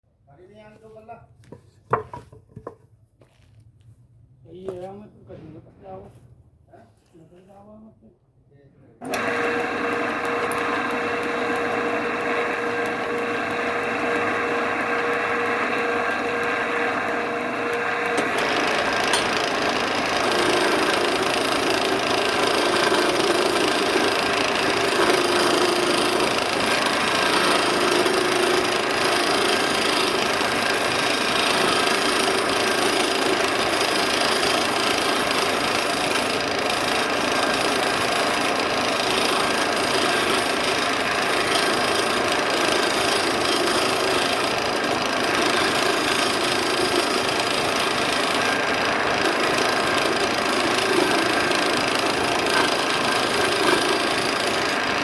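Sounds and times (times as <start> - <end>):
wood lathe humming: 9.0 - 55.0.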